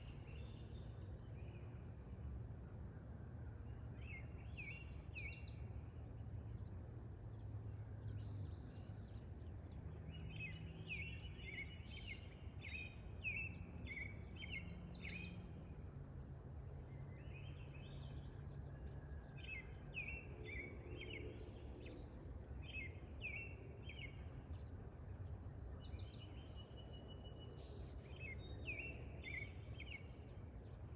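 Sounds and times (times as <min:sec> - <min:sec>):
songbird chirping: 0:03.6 - 0:15.8, 0:16.6 - 0:30.9.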